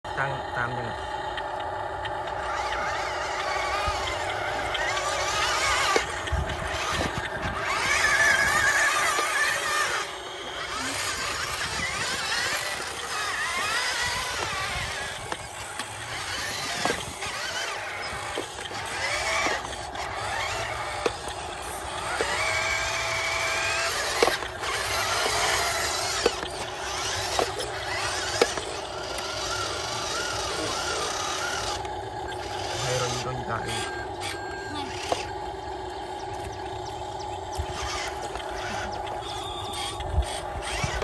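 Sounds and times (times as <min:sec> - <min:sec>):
electric motor whining: 0:00.1 - 0:41.0.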